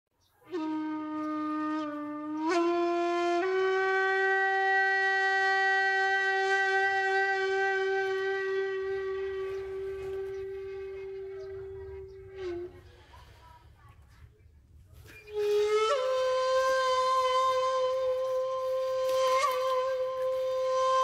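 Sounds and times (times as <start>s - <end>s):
wind instrument melody: 0.4s - 13.2s, 15.0s - 21.0s.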